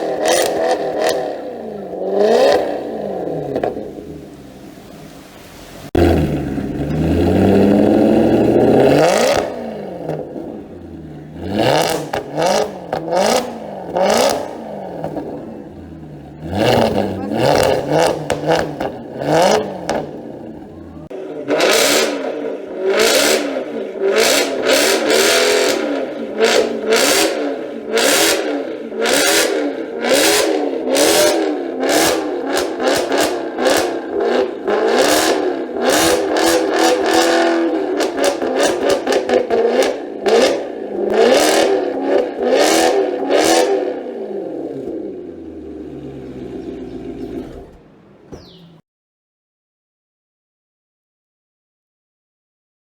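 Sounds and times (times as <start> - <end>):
car engine revving: 0.0 - 48.8.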